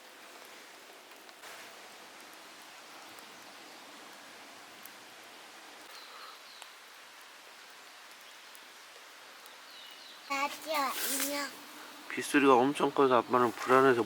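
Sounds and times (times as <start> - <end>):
light rain hiss: 0.0 - 14.0.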